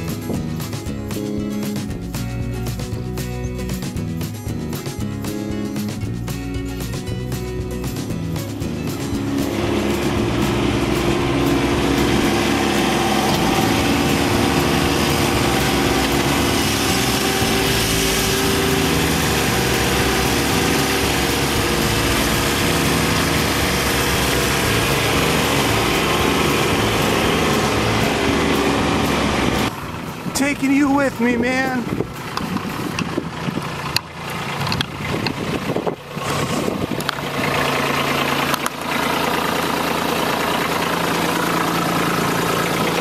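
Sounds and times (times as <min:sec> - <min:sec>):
tractor diesel engine running: 0:00.0 - 0:43.0
loader pushing into wood chips: 0:05.8 - 0:43.0.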